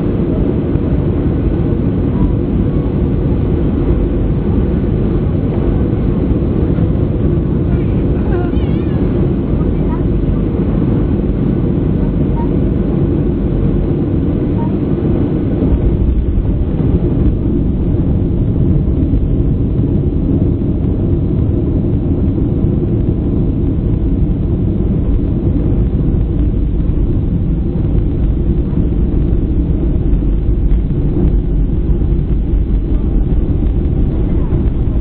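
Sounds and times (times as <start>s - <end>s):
jet engine cabin rumble: 0.0s - 35.0s.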